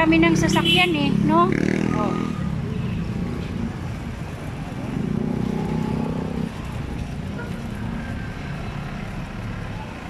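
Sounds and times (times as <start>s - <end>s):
passing traffic: 0.0s - 10.0s.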